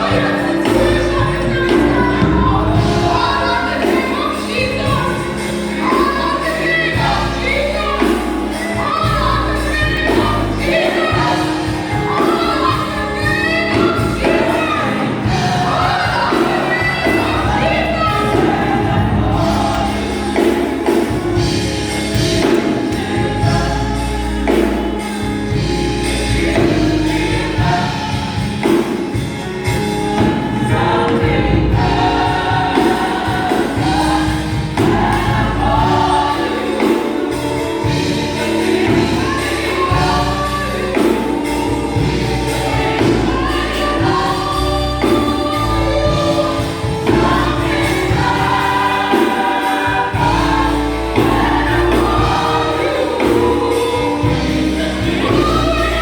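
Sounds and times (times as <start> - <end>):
gospel choir singing: 0.0 - 56.0
instrumental accompaniment with bass: 0.0 - 56.0.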